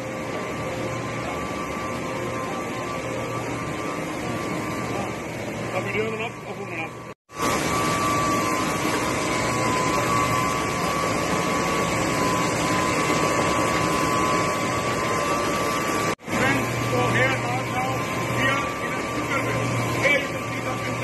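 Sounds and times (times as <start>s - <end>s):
industrial machinery running: 0.0s - 21.0s
machinery whine: 0.0s - 21.0s.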